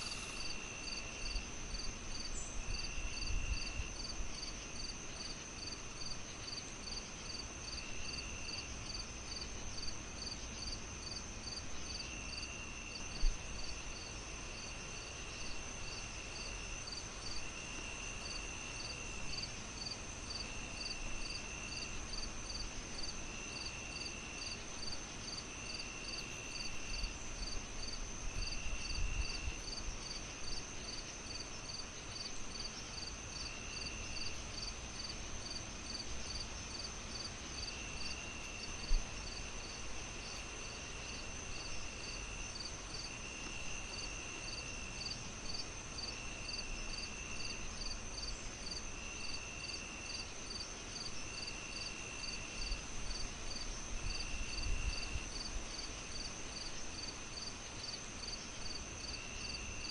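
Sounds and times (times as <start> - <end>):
insect trill: 0.0 - 59.9
insects chirping: 0.0 - 59.9
soft hiss: 0.0 - 59.9.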